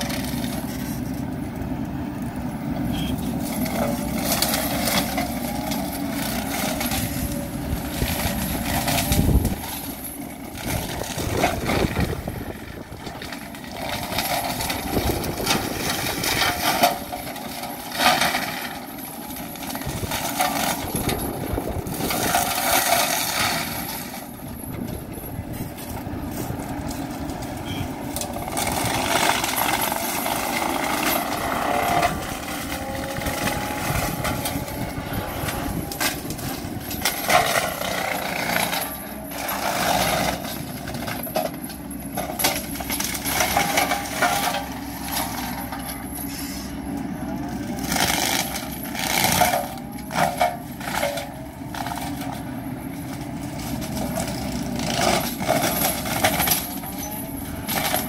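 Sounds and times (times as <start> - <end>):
excavator diesel engine under load: 0.0 - 58.0
mulcher shredding branches: 0.0 - 58.0.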